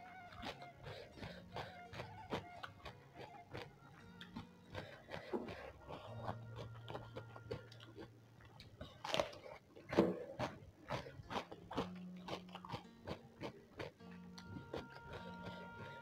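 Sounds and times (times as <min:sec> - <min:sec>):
wet chewing and crunching: 0:00.0 - 0:16.0
loud mouth smacks: 0:00.2 - 0:15.6.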